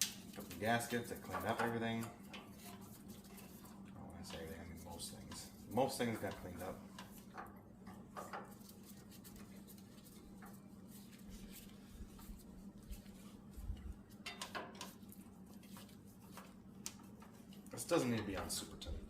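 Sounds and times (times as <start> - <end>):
faint low hum: 0.1 - 19.0.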